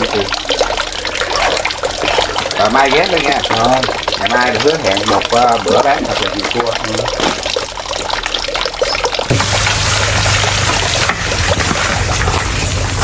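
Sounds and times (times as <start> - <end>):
water trickling and pouring: 0.0 - 13.0.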